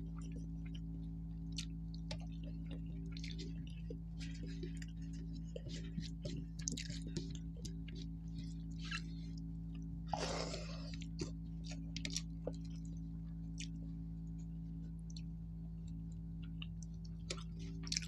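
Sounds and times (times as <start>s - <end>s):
person chewing food: 0.0s - 18.0s
steady low hum: 0.0s - 18.0s.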